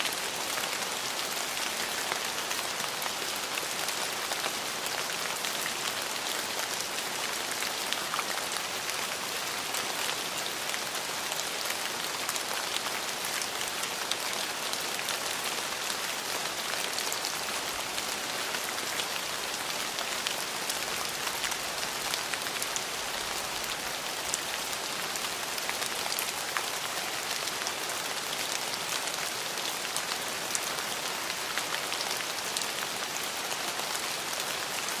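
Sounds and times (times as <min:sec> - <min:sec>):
rain falling on a surface: 0:00.0 - 0:35.0.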